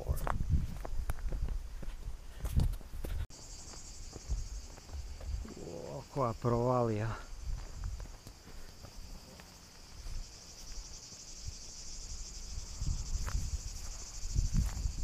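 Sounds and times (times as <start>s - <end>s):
insects chirring: 2.4s - 15.0s.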